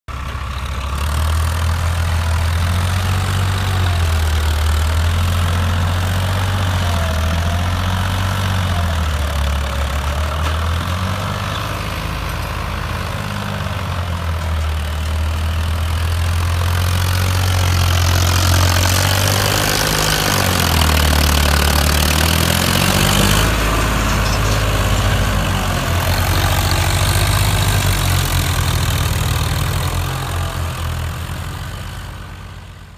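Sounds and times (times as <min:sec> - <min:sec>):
tractor diesel engine: 0:00.0 - 0:32.9.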